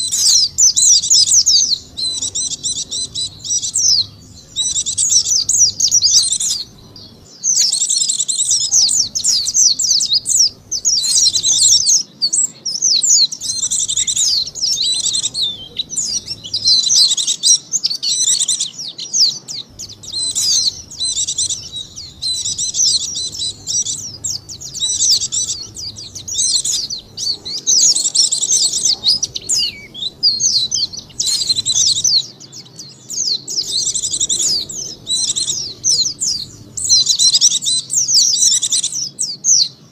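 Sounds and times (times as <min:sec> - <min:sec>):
bird twittering rapidly: 0:00.0 - 0:39.8.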